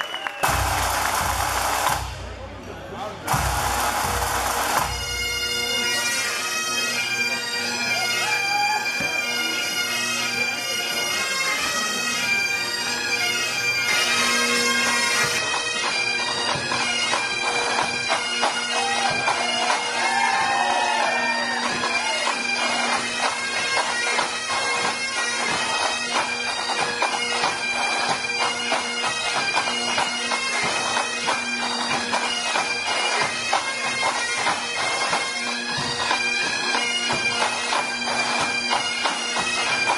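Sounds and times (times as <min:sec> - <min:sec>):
bagpipes playing a dance tune: 0:00.3 - 0:39.9
bagpipe drones: 0:00.4 - 0:39.9.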